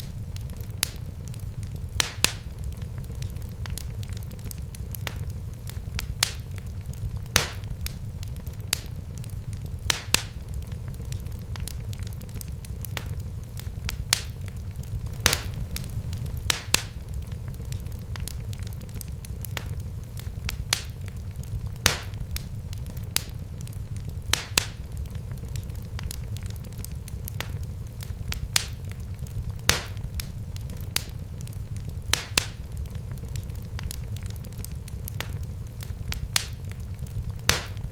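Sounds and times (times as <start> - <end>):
fire crackling and popping: 0.0 - 37.9
flames rumbling: 0.0 - 37.9.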